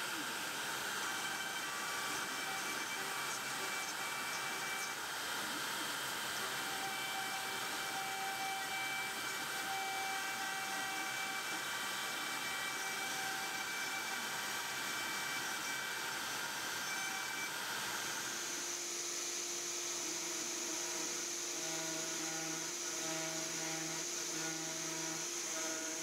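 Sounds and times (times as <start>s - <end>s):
router spindle cutting metal: 0.0s - 26.0s.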